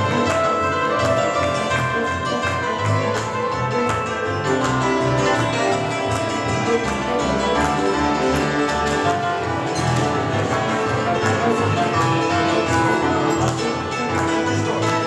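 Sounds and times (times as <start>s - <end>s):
bowed double bass: 0.0s - 15.0s
fiddles playing: 0.0s - 15.0s.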